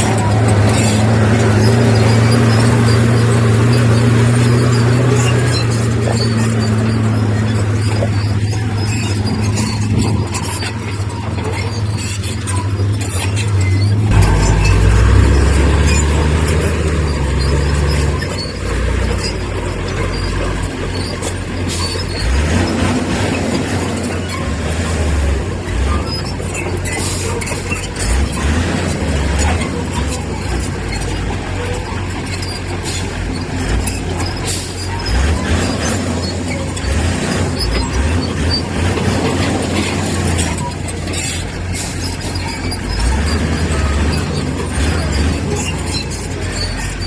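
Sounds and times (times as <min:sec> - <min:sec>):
bulldozer diesel engine under load: 0:00.0 - 0:47.0
steel tracks squealing and clanking: 0:00.0 - 0:47.0.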